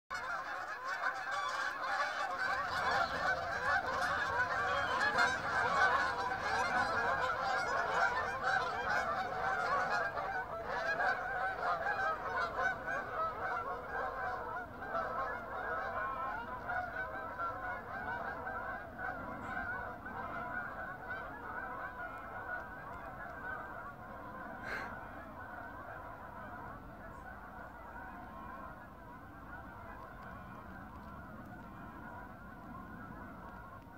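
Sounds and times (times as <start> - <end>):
geese honking in flight: 0.1 - 33.9.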